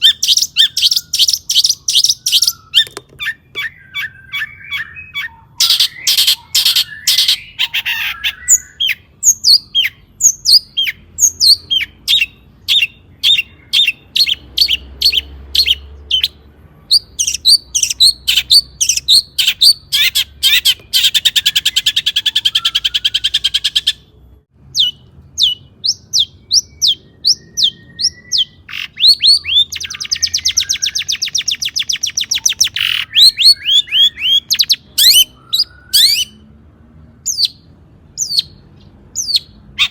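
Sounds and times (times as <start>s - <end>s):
bird singing sharp chirps: 0.0s - 24.1s, 24.7s - 36.5s.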